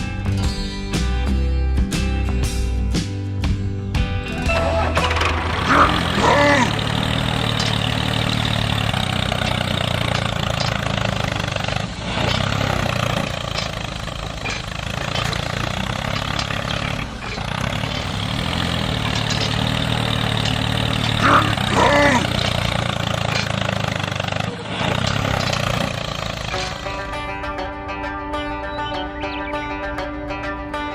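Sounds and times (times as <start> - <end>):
tractor engine idling: 4.0 - 30.9.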